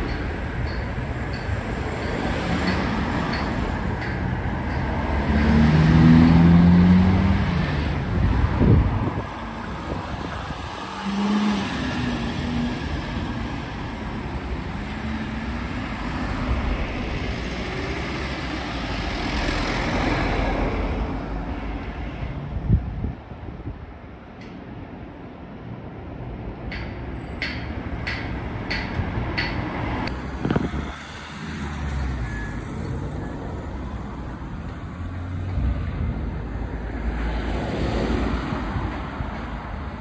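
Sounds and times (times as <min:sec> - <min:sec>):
road traffic: 0:00.0 - 0:40.0.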